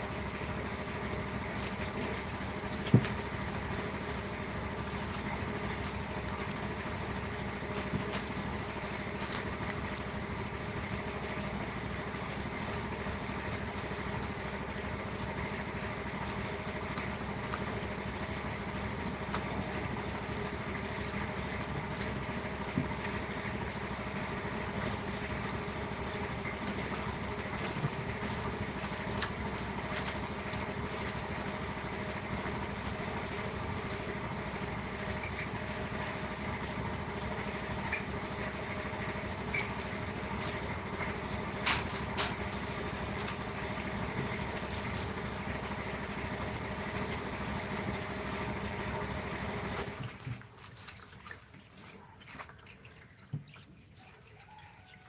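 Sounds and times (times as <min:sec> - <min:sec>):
steady machine hum: 0:00.0 - 0:50.0.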